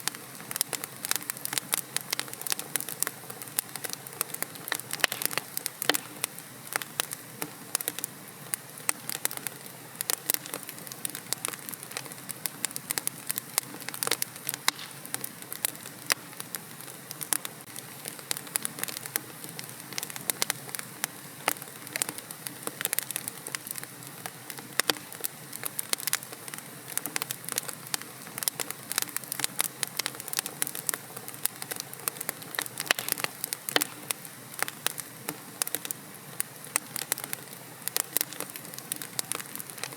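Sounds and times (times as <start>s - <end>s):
fire hissing: 0.0s - 39.9s
wood fire crackling: 0.0s - 39.9s.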